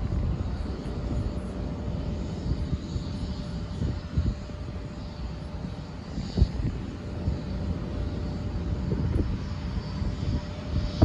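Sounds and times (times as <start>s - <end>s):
distant jet rumble with whine: 0.0s - 11.0s
wind buffeting microphone: 0.0s - 11.0s.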